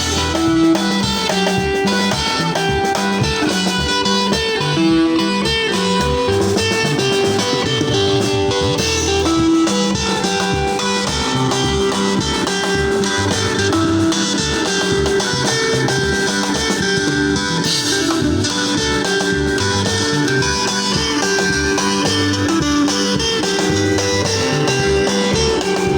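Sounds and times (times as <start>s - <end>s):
drum beat: 0.0s - 25.9s
electric guitar melody: 0.0s - 25.9s
low bass notes: 0.0s - 25.9s.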